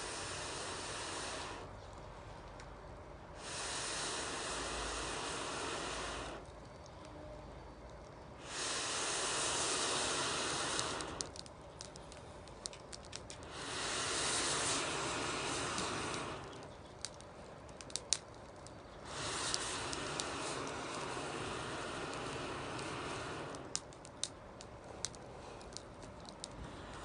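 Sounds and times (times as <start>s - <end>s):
hissing rush of air: 0.0s - 2.4s, 3.0s - 7.0s, 8.0s - 27.0s
campfire crackling: 0.0s - 27.0s.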